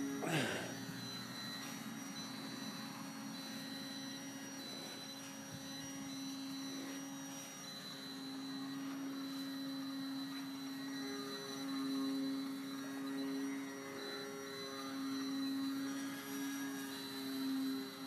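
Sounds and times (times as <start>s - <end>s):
model aircraft motor droning: 0.0s - 18.0s.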